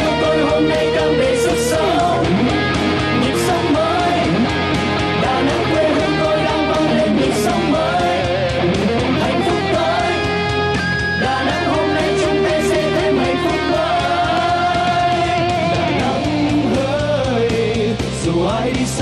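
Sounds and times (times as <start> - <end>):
pop song with strummed guitar: 0.0 - 19.0.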